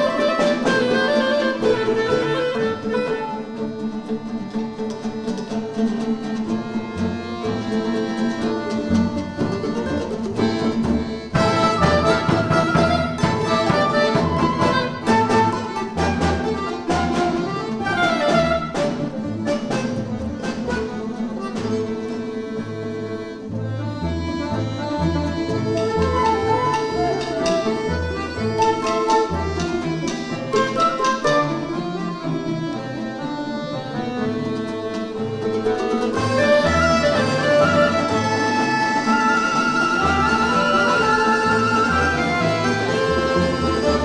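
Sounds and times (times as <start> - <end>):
bowed violins: 0.0 - 44.0
plucked lutes: 0.0 - 44.0.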